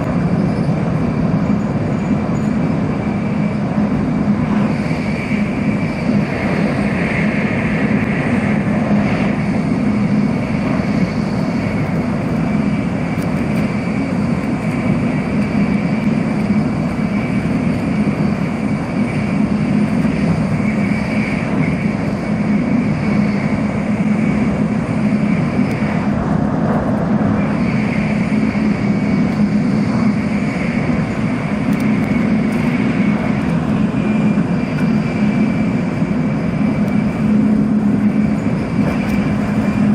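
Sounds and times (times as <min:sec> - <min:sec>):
faint high whine: 0:00.0 - 0:39.9
train running low rumble: 0:00.0 - 0:39.9.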